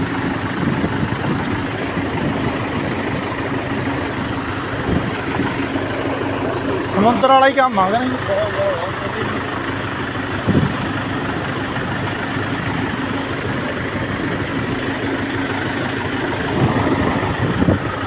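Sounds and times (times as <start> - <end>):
churned water washing: 0.0 - 18.0
tractor engine running: 0.0 - 18.0.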